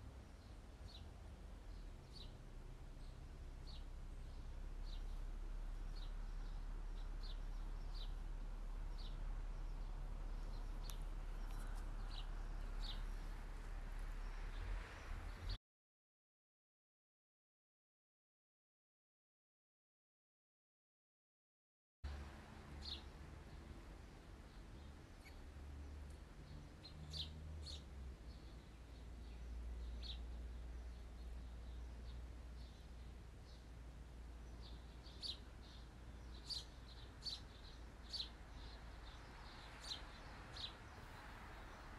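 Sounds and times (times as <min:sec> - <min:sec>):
birds chirping: 0:01.7 - 0:15.6, 0:22.1 - 0:41.9.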